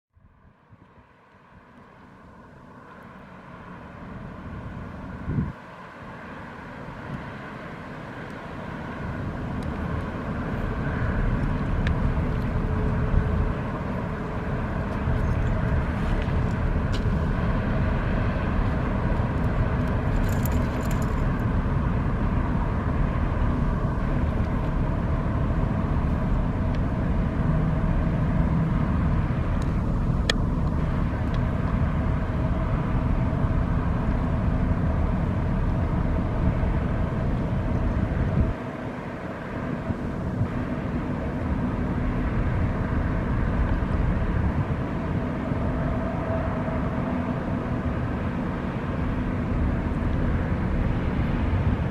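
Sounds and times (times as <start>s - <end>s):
ferry engine rumble: 0.2s - 51.9s.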